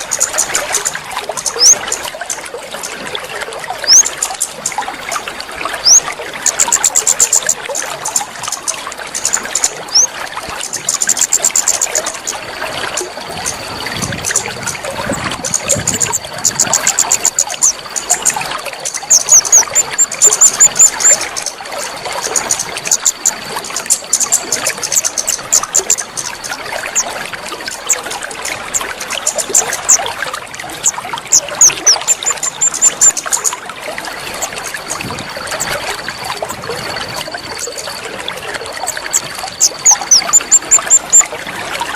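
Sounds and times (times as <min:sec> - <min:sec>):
bird chirps and trills: 0:00.0 - 0:36.4, 0:37.1 - 0:41.9
water trickling and splashing: 0:00.0 - 0:41.9.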